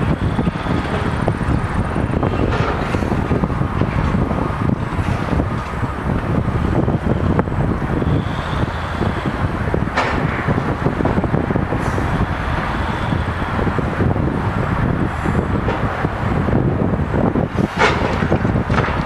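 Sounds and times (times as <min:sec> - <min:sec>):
crane engine under load: 0:00.0 - 0:19.0
wind buffeting microphone: 0:00.0 - 0:19.0.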